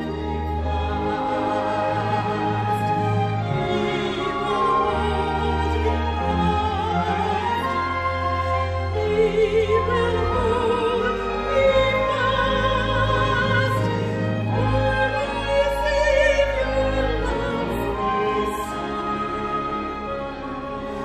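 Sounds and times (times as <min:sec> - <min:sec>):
orchestral strings: 0:00.0 - 0:21.0
soprano singing with vibrato: 0:00.6 - 0:20.3.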